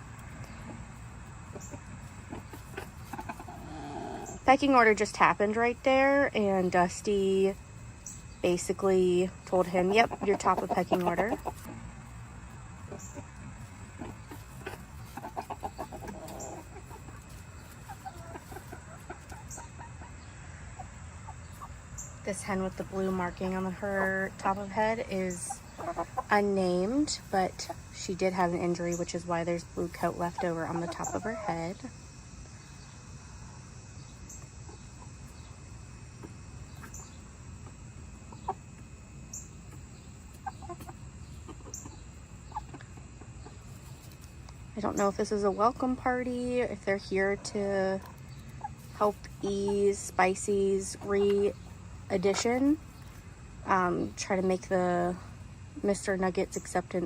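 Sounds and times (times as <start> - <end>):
chickens clucking: 0.0 - 57.0
low outdoor background: 0.0 - 57.0.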